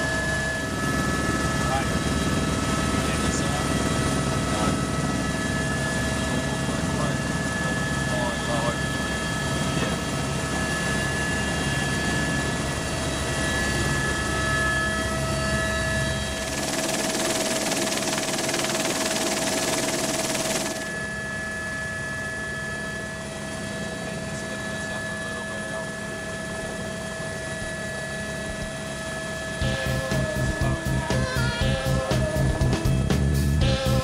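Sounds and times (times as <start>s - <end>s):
helicopter turbine and rotor: 0.0s - 34.0s.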